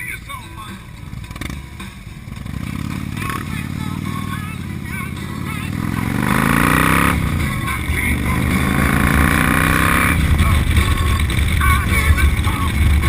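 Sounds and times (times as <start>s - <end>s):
motorcycle engine accelerating: 0.6s - 13.0s.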